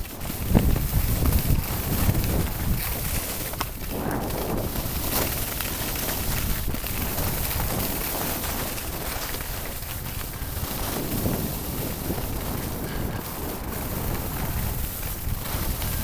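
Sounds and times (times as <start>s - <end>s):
skis sliding on snow: 0.0s - 16.0s
wind buffeting microphone: 0.0s - 16.0s.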